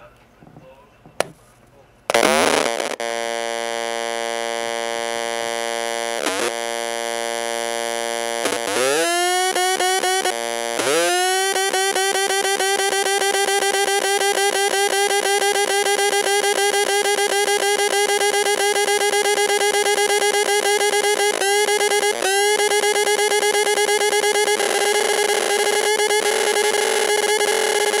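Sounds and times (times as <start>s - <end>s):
electronic tones from speaker: 2.1s - 28.0s.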